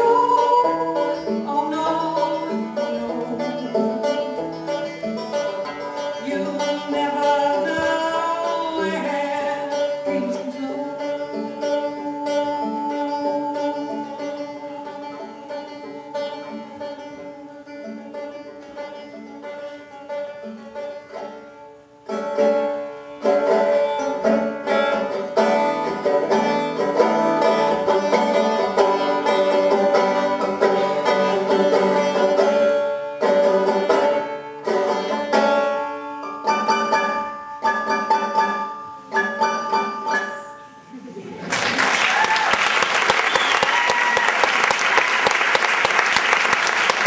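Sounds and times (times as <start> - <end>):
banjo picking: 0.0 - 41.2, 43.0 - 47.0.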